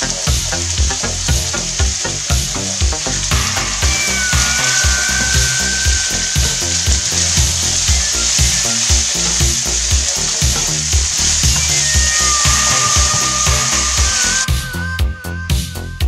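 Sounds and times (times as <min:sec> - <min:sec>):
food sizzling in a wok: 0:00.0 - 0:15.9
background music with beat: 0:00.0 - 0:16.0.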